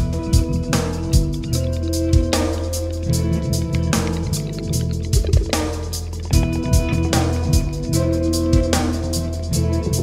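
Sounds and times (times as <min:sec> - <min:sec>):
drum beat: 0:00.1 - 0:09.0.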